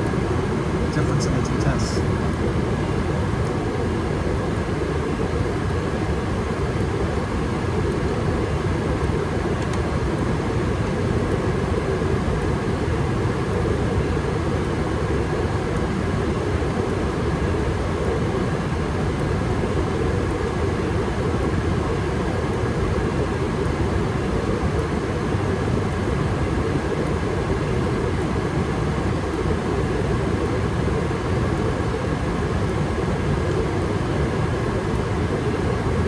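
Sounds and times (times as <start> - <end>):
furnace burners rushing hum: 0.0 - 36.0.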